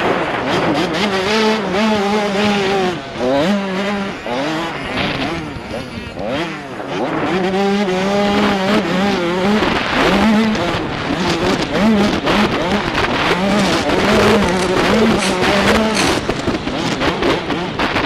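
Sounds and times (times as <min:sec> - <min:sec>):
motocross bike engine revving: 0:00.0 - 0:18.0.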